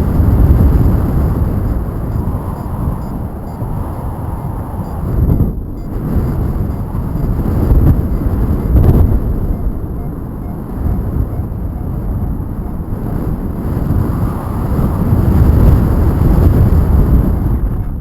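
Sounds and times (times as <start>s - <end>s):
airflow buffeting microphone: 0.0s - 18.0s.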